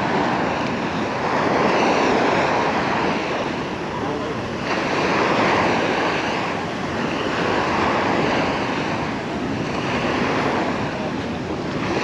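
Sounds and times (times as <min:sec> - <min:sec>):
sea waves washing onto beach: 0:00.0 - 0:12.0
wind on microphone: 0:00.0 - 0:12.0.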